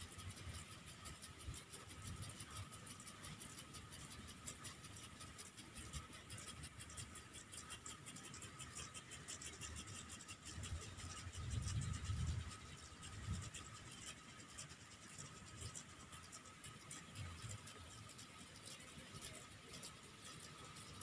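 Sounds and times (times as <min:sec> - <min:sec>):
sprinkler fast ticking: 0:00.0 - 0:21.0
sprinkler spray hiss: 0:00.0 - 0:21.0.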